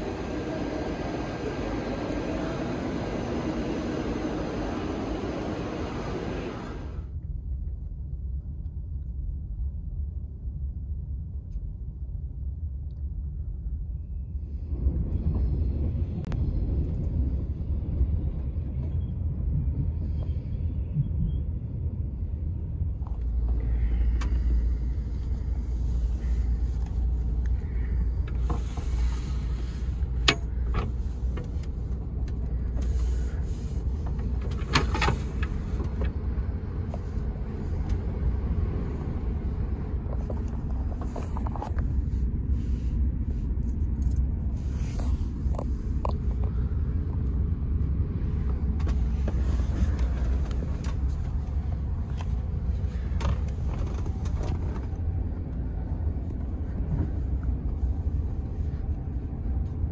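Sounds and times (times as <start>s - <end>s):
train rumble inside cabin: 0.0s - 59.9s.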